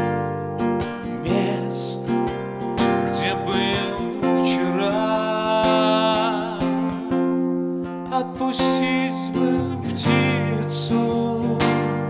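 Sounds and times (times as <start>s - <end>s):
acoustic guitar strumming: 0.0s - 12.0s
man singing: 1.2s - 12.0s.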